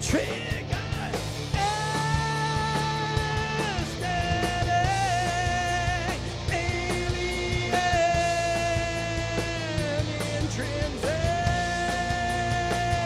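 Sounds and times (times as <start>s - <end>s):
metal band playing live: 0.0s - 13.0s.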